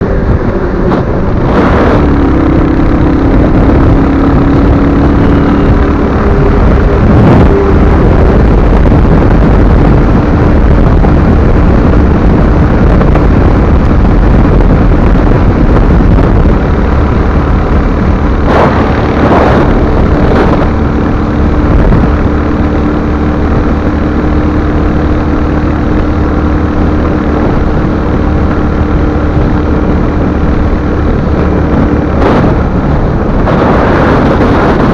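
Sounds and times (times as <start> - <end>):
motorcycle running: 0.0 - 34.9
wind noise on microphone: 0.0 - 34.9.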